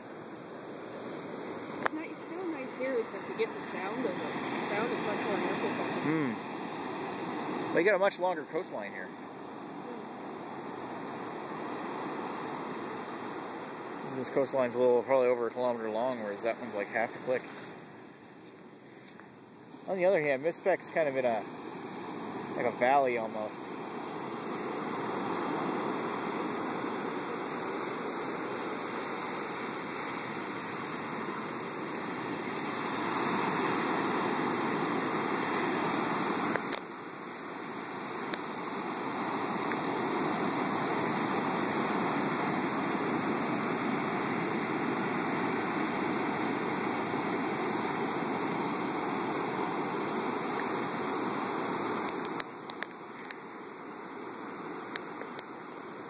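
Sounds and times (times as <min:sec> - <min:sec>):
heavy surf breaking on beach: 0:00.0 - 0:18.2, 0:19.7 - 0:56.0.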